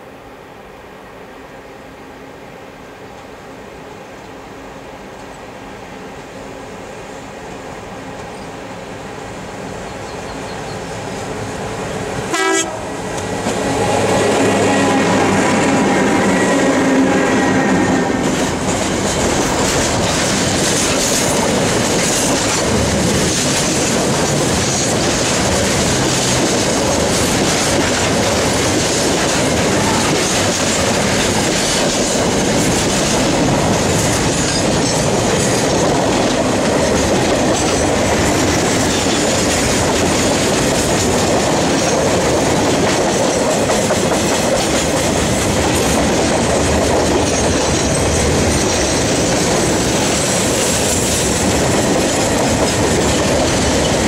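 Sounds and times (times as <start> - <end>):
electric locomotive whine: 0.0 - 54.0
steel wheels on rail: 1.3 - 54.0.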